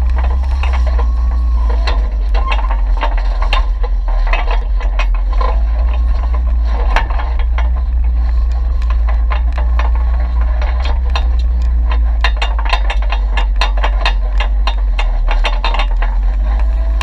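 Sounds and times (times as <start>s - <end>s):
low drivetrain rumble: 0.0s - 17.0s
rocks knocking and rattling: 0.0s - 17.0s.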